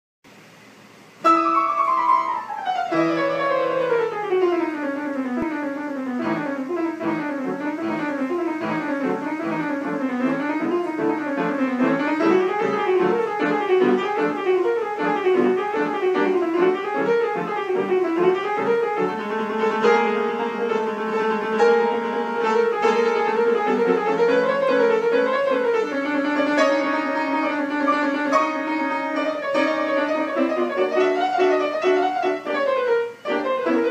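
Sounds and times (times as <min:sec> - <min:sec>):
piano-like instrumental music: 0:01.2 - 0:33.9.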